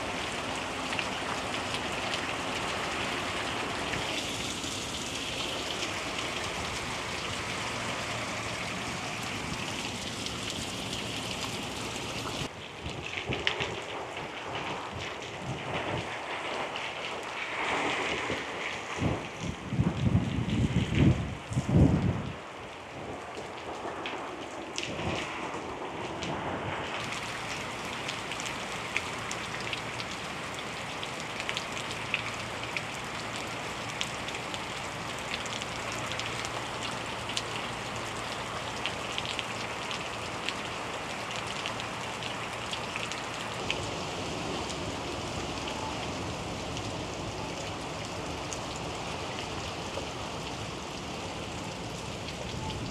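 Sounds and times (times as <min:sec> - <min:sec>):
heavy rain pattering: 0:00.0 - 0:52.9.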